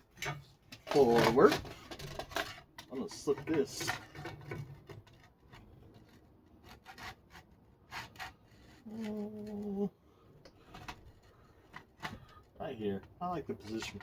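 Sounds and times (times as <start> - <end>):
plastic rubbing and scraping: 0.0 - 14.0.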